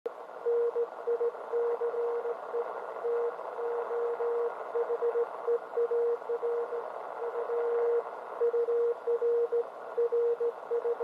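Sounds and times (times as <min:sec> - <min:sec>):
morse code beeps: 0:00.5 - 0:11.0.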